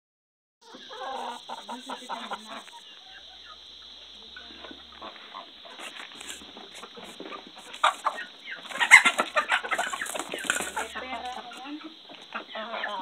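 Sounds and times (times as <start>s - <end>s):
chickens clucking: 0.6s - 13.0s.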